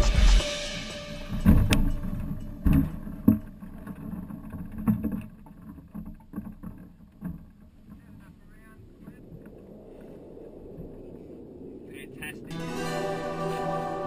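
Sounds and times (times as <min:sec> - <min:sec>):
low rustling: 0:00.0 - 0:14.0.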